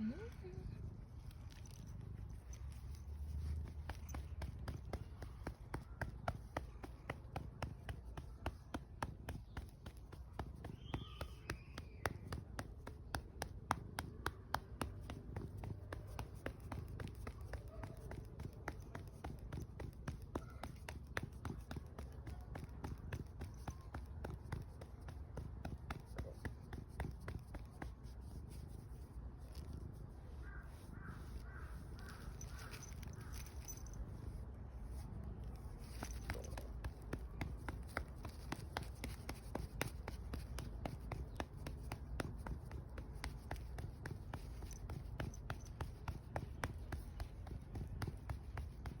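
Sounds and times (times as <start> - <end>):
cat purring: 0.0 - 49.0.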